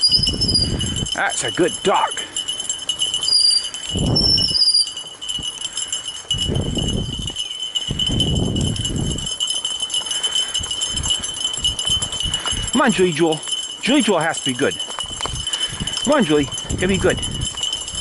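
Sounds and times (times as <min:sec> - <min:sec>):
metal harness jingling: 0:00.0 - 0:18.0.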